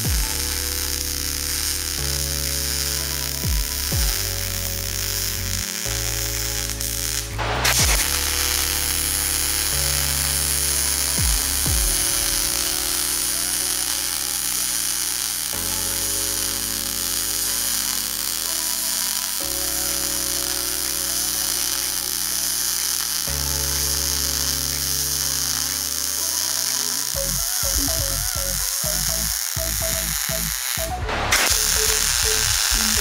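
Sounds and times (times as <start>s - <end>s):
background music of sustained chords: 0.0s - 33.0s
welding arc crackling and sizzling: 0.0s - 33.0s.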